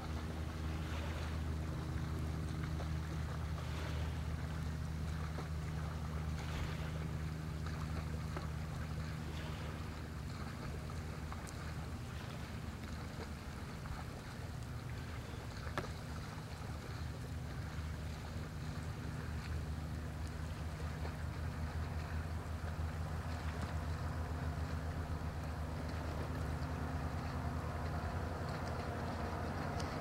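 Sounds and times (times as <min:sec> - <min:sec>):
distant motor hum: 0:00.0 - 0:30.0.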